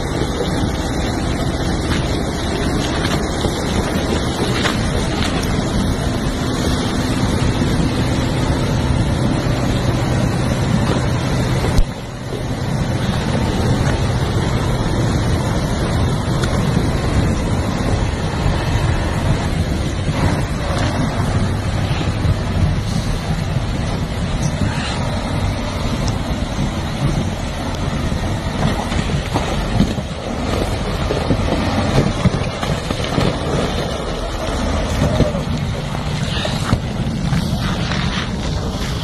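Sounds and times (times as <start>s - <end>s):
truck diesel engine under load: 0.0s - 39.0s
wheels splashing through slush: 0.0s - 39.0s
wind on microphone: 0.0s - 39.0s.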